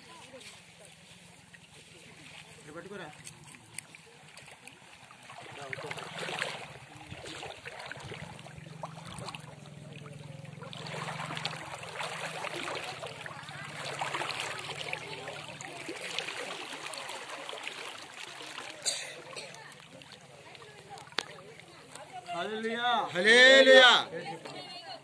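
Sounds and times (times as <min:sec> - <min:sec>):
water sloshing and splashing: 0:00.0 - 0:25.0.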